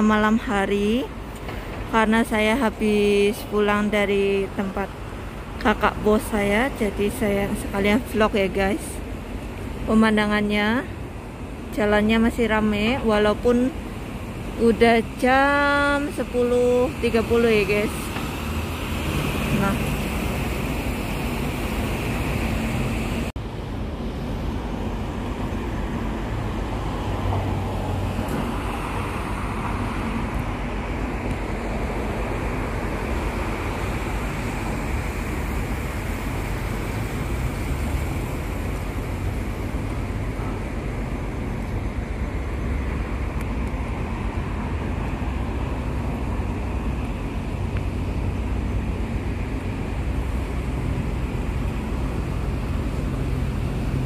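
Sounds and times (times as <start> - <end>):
rumble of passing cars: 0.0 - 54.0.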